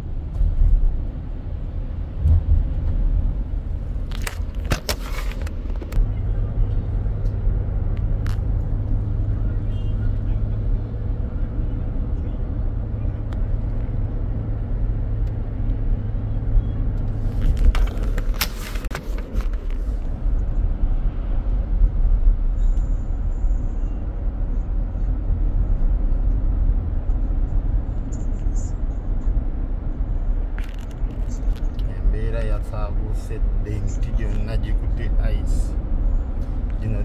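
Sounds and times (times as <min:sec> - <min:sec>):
car driving low rumble: 0:00.0 - 0:37.0.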